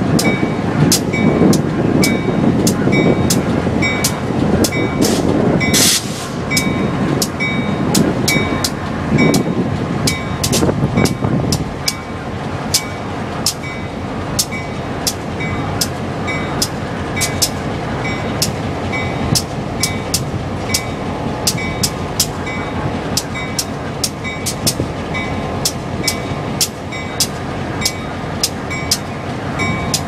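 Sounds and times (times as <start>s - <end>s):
freight train rumbling past: 0.0s - 30.0s
railroad crossing bell dinging: 0.0s - 30.0s.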